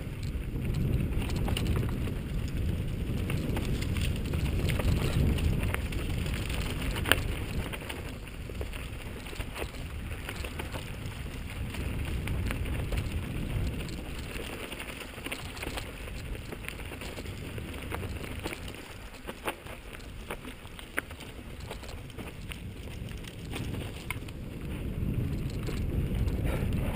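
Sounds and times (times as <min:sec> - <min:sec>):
bike rattling over bumps: 0:00.0 - 0:26.9
wind buffeting microphone: 0:00.0 - 0:26.9.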